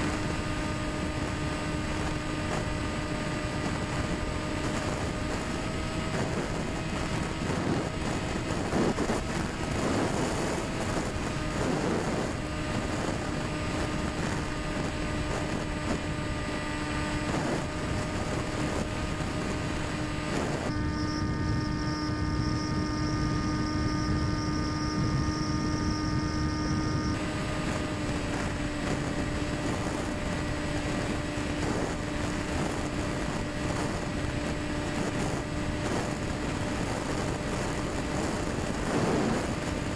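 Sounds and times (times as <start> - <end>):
electric motor and propeller droning: 0.0 - 39.9.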